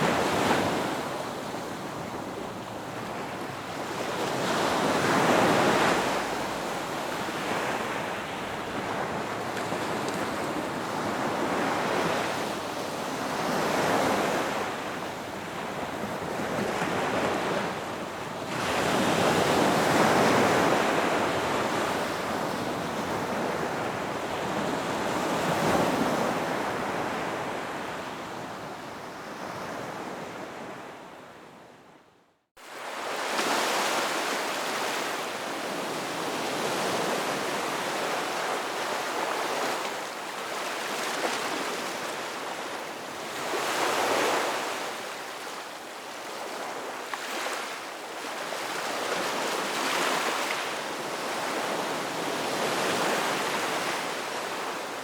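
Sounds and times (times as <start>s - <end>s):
ocean waves washing ashore: 0.0s - 31.2s, 32.6s - 55.0s.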